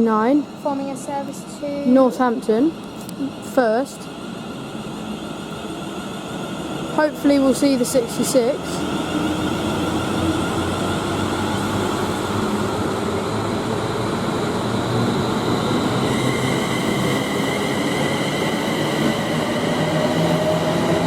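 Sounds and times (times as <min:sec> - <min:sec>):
high multi-tone whine: 0:00.0 - 0:21.0
train rumbling: 0:00.0 - 0:21.0.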